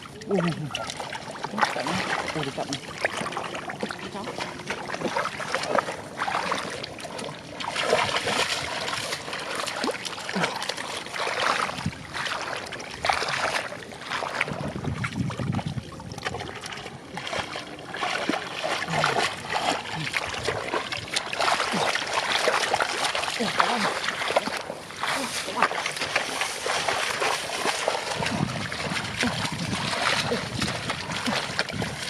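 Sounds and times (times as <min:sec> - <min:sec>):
splashing in muddy water: 0:00.0 - 0:32.0.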